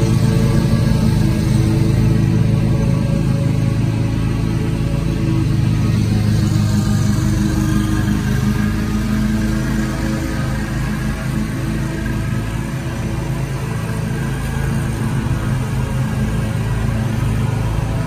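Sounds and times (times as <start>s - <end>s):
mower engine running: 0.0s - 18.0s.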